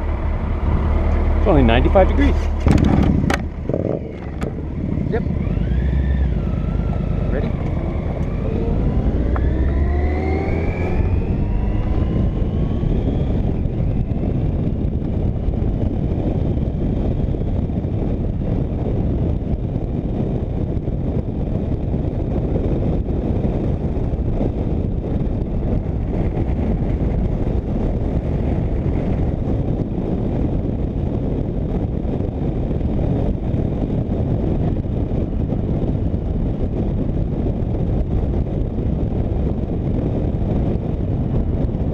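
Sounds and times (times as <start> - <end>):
motorcycle engine accelerating: 0.0 - 41.9
wind and road noise: 0.0 - 41.9.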